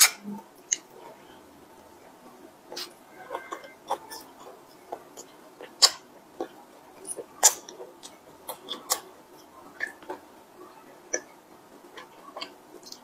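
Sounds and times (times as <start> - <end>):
pastry crust crackling: 0.0 - 13.0.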